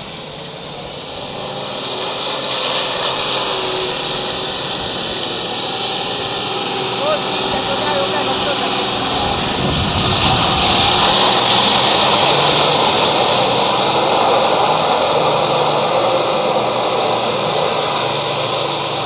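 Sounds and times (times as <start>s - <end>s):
suv engine pulling under load: 0.0s - 19.0s
water and mud splashing: 0.0s - 19.0s.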